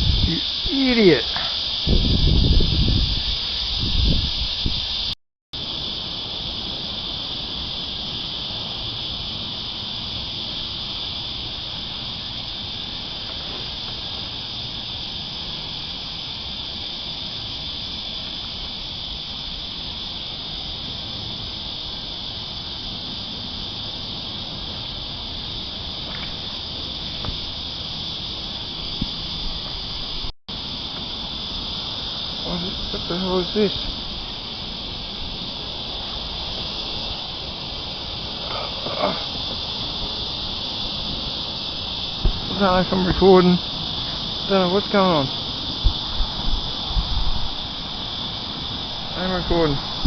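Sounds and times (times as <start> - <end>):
cicadas buzzing: 0.0 - 50.0.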